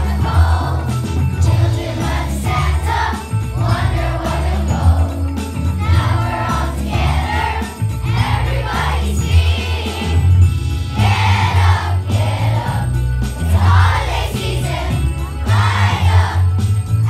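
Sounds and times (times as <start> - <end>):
children singing a christmas song: 0.0 - 10.4, 11.0 - 17.0
steady bass: 0.0 - 17.0.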